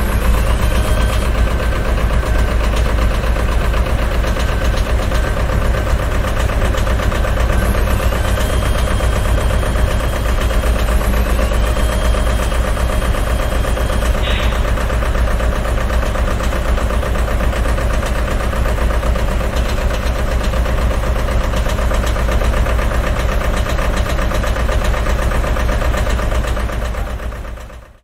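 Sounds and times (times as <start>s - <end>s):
remote-control loader engine running: 0.0s - 28.0s.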